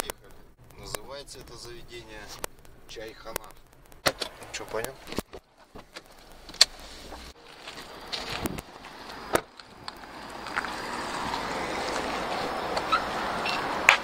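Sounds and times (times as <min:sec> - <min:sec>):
outdoor noise: 0:00.0 - 0:14.0.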